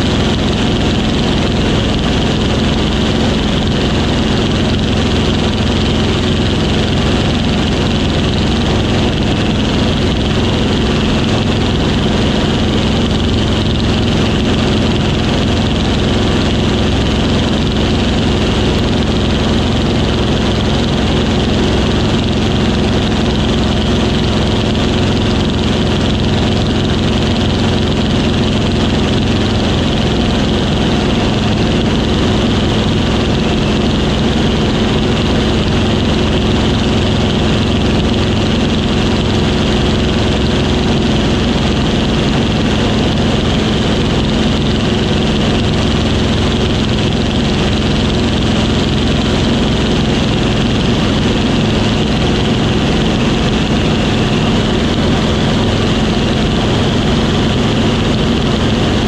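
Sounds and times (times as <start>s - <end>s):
aircraft piston engine droning: 0.0s - 59.0s.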